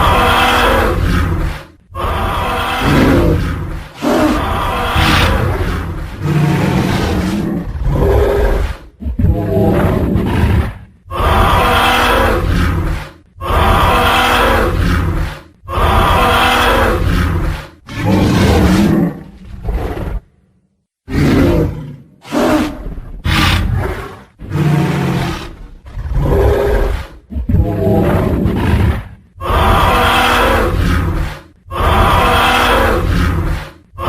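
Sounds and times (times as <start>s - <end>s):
dinosaur roars: 0.0s - 20.3s, 21.1s - 34.0s.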